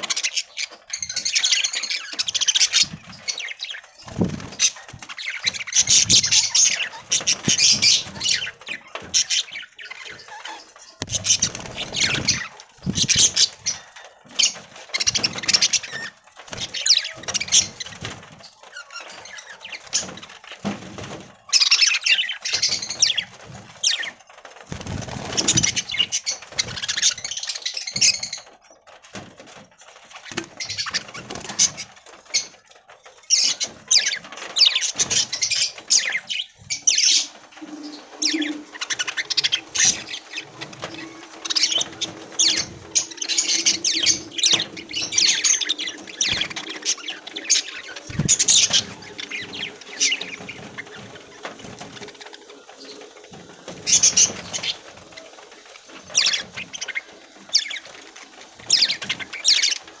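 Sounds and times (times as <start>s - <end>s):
budgerigars chirping and chattering: 0.0s - 29.0s, 30.1s - 60.0s.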